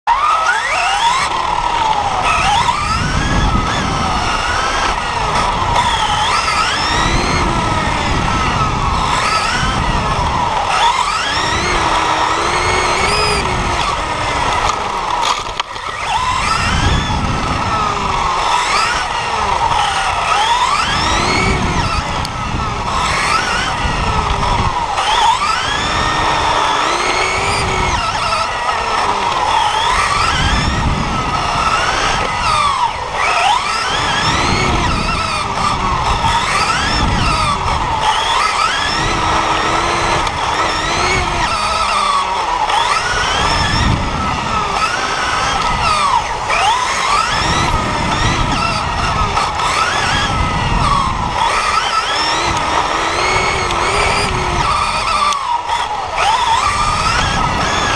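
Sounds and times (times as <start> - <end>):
rc car motors whining: 0.1 - 57.9.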